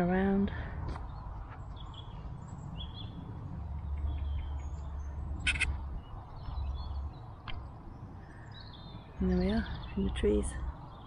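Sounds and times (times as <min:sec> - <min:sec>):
birds chirping: 0:00.0 - 0:11.0
wind rumble on microphone: 0:00.0 - 0:11.0.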